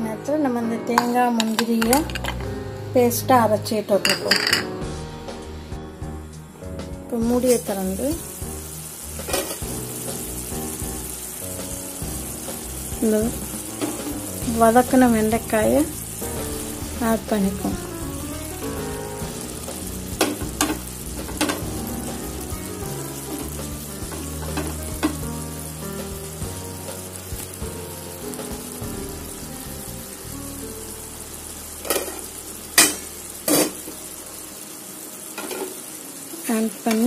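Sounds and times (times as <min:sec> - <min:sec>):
vegetables sizzling in a pan: 0:00.5 - 0:37.0.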